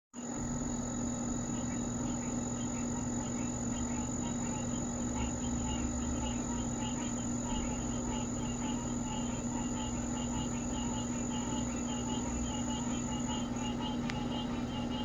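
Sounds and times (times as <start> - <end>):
faint insect chirps: 0.2 - 15.0
insects trilling: 0.2 - 15.0.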